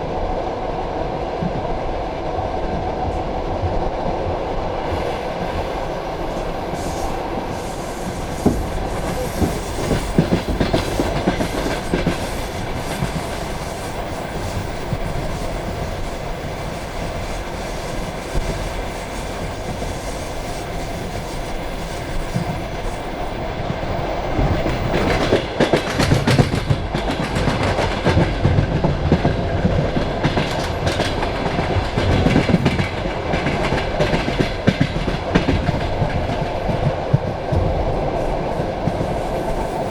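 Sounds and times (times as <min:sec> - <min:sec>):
train wheels rumbling on rail: 0:00.0 - 0:39.9
clickety-clack over rail joints: 0:01.4 - 0:39.9.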